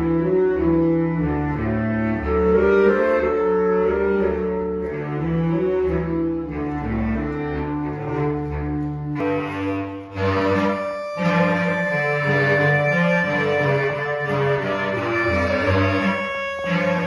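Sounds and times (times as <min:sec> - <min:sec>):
bowed string instruments: 0:00.0 - 0:17.0.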